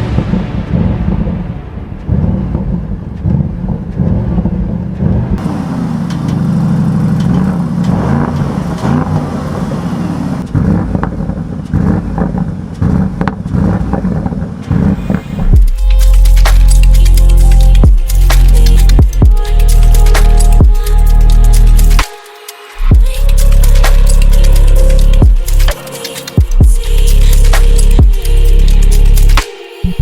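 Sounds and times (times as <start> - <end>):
car engine revving: 0.0 - 30.0
exhaust crackles: 0.0 - 30.0.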